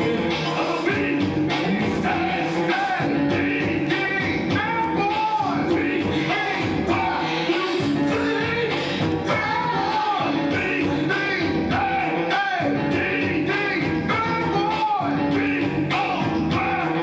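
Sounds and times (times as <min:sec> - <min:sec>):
guitar: 0:00.0 - 0:17.0
person singing: 0:00.0 - 0:17.0
rock and roll music: 0:00.0 - 0:17.0.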